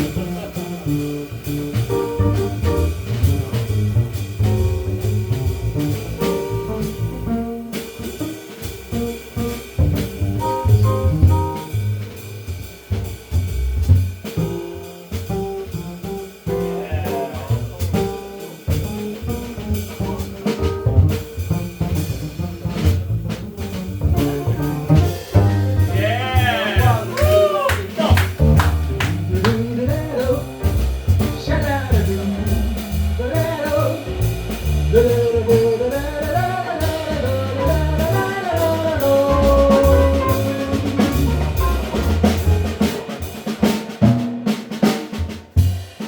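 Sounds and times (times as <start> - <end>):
bass line: 0.0 - 44.3
drum kit keeping time: 0.0 - 46.0.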